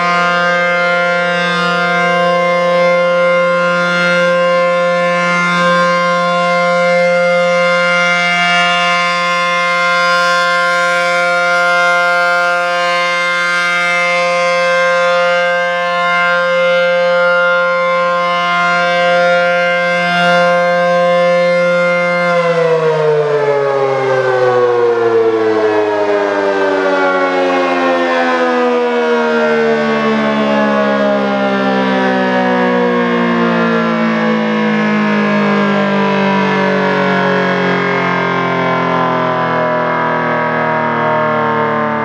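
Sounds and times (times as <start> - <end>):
dual-tone siren winding down: 0.0 - 42.0.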